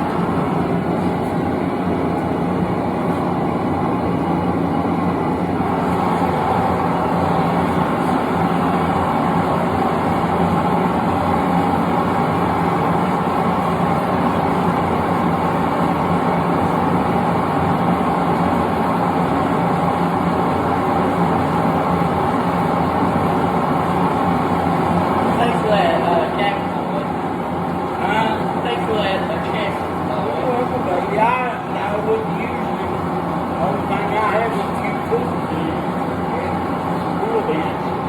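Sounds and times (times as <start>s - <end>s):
forge burner roaring: 0.0s - 38.0s.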